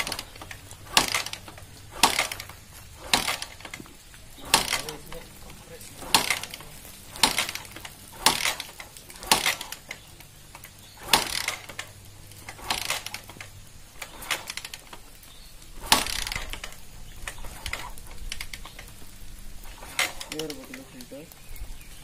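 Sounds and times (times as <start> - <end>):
motorcycle kick-start clattering: 0.0 - 19.0, 19.6 - 21.1.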